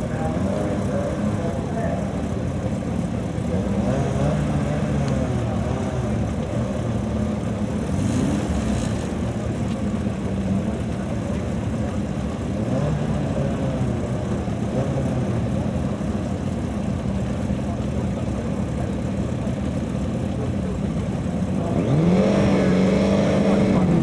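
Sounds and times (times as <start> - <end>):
car engines idling: 0.0 - 24.0.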